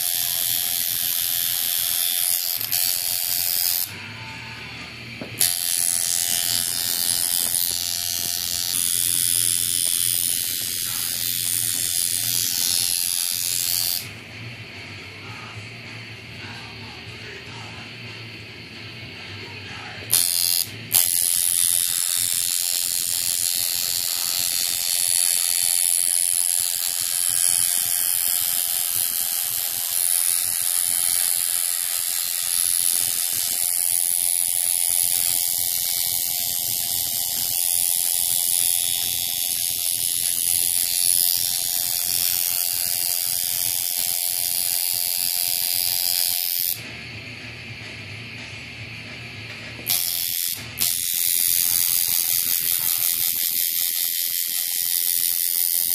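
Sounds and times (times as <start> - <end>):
tattoo machine buzzing: 0.0 - 55.9.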